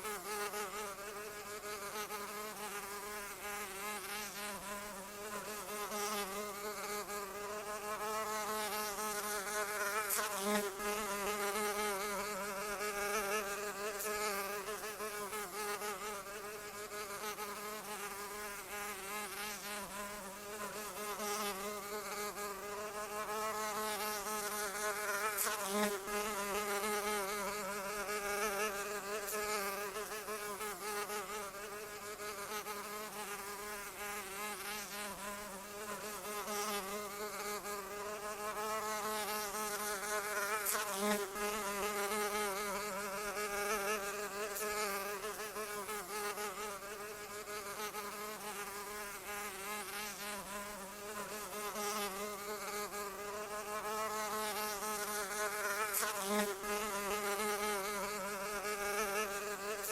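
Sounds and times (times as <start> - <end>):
flying insect buzzing: 0.0 - 59.9.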